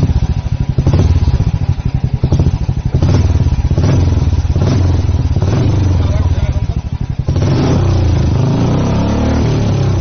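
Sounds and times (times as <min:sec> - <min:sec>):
motorcycle engine thumping: 0:00.0 - 0:10.0.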